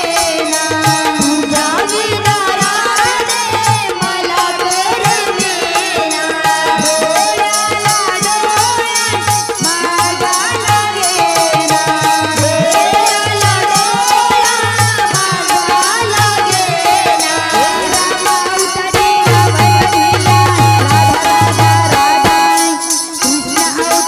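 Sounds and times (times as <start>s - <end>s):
high percussion ticks: 0.0s - 24.0s
woman singing into a microphone: 0.0s - 24.0s
amplified accompaniment: 0.3s - 24.0s.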